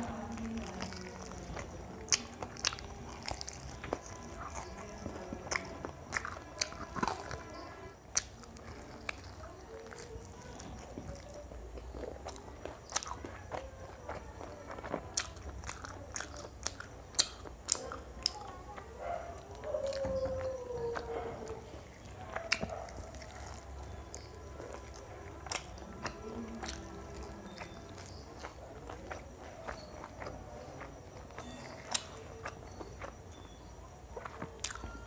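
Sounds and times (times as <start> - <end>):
crunching fried chicken: 0.0 - 35.0.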